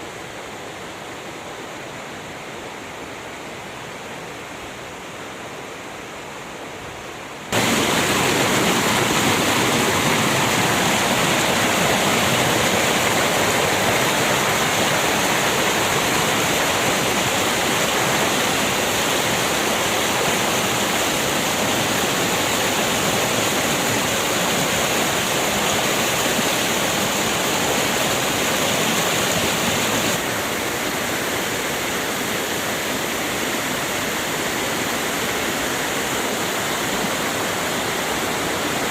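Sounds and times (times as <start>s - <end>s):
fast river water rushing: 0.0s - 38.9s.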